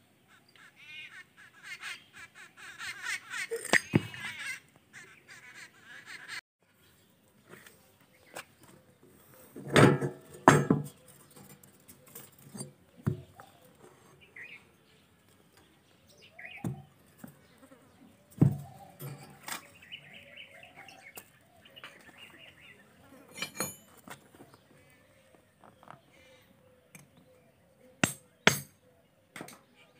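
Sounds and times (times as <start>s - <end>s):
birds chirping: 0.0s - 9.6s, 10.8s - 29.9s.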